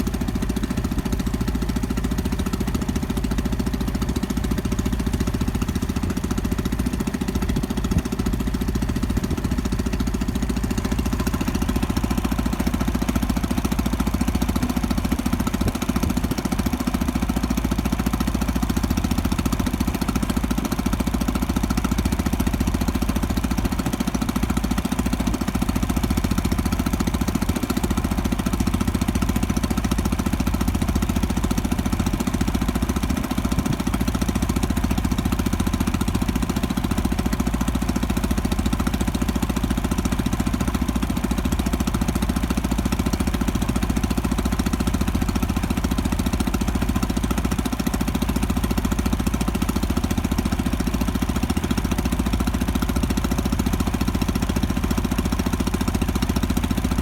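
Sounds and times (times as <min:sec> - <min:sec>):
boat engine chugging: 0:00.0 - 0:57.0.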